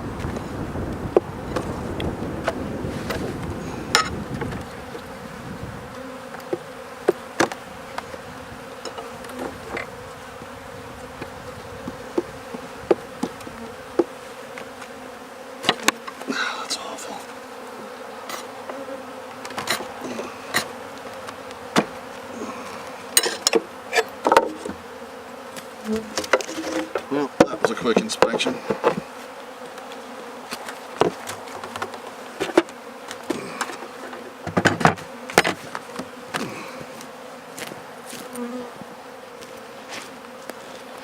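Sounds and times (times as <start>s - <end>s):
honeybees buzzing: 0.0s - 41.0s
wooden hive frames knocking: 0.2s - 15.0s, 15.6s - 16.4s, 18.2s - 41.0s.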